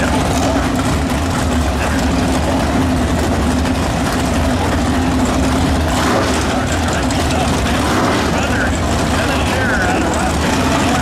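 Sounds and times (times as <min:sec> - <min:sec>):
vee eight engines idling: 0:00.0 - 0:11.0.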